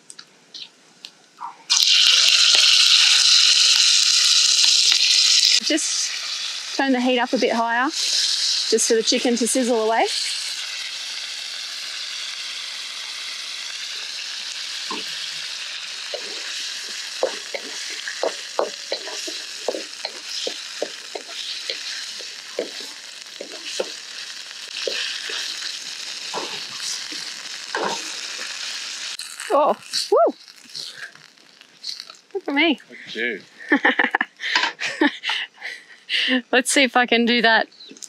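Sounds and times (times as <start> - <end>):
chicken sizzling in oil: 1.7 - 32.6.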